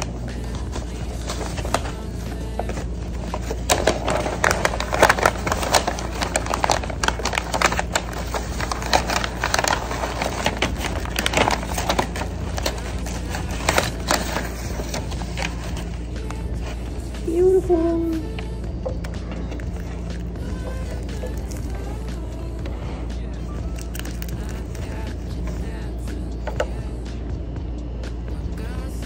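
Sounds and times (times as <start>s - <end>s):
paper wrapping crinkling: 0.0s - 25.8s.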